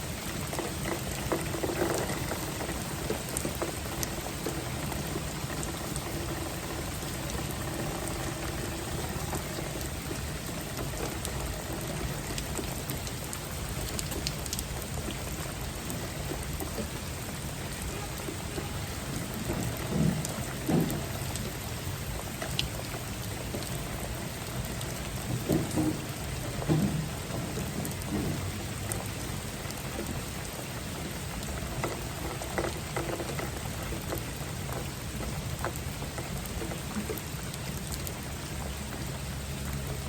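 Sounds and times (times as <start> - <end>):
steady rain patter: 0.0 - 40.0.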